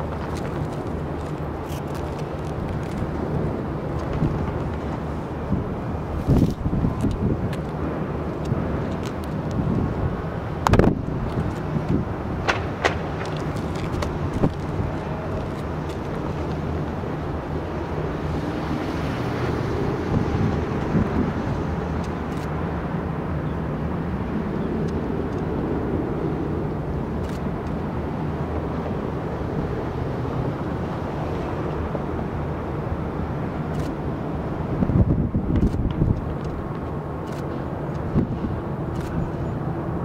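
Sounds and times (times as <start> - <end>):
distant jet engines at takeoff: 0.0 - 40.0.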